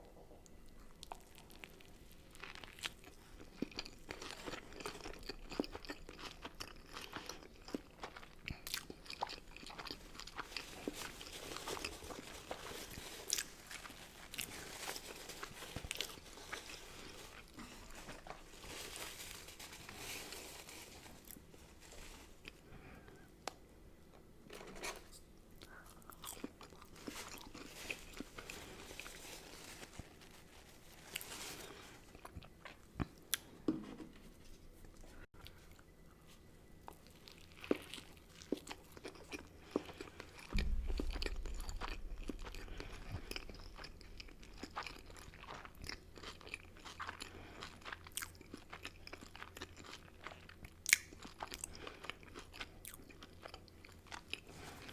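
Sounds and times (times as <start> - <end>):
person chewing crunchy food: 0.7 - 23.6, 25.6 - 33.6, 36.7 - 54.9.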